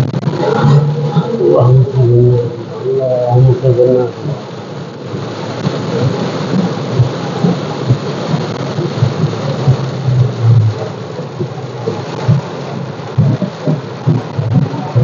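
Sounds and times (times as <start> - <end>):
heavy rain on car roof: 0.0 - 15.0
low thumps and rumbles: 0.0 - 15.0.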